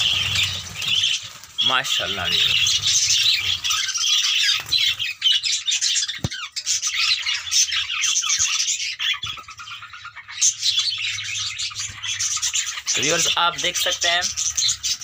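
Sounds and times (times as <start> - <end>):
budgerigars chattering: 0.0 - 15.0.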